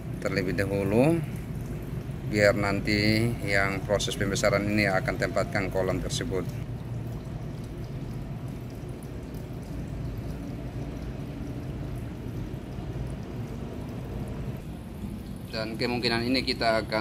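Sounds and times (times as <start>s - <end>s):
water splashing into tank: 0.0s - 17.0s.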